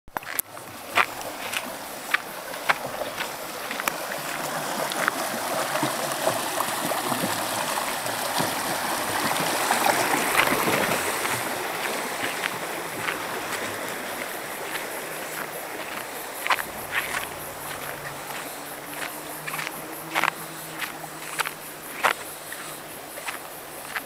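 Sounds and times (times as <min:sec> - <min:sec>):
mountain stream rushing over rock: 0:00.1 - 0:24.0.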